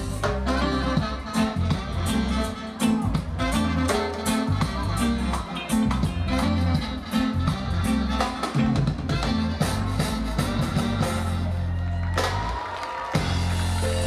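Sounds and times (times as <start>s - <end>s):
trombone: 0.0s - 11.8s
live reggae band playing: 0.0s - 14.0s.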